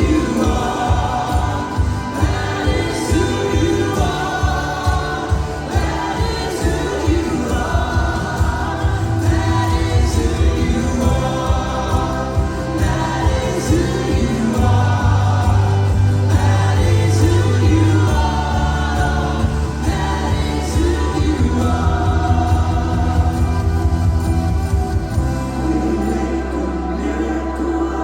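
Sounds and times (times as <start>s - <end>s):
choir singing gospel song: 0.0s - 28.0s
steady bass line: 0.0s - 28.0s.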